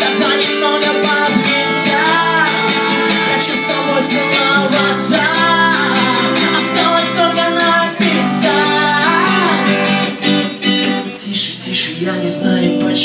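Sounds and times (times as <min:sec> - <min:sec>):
electric guitar lead bending: 0:00.0 - 0:13.0
pop-rock band playing: 0:00.0 - 0:13.0.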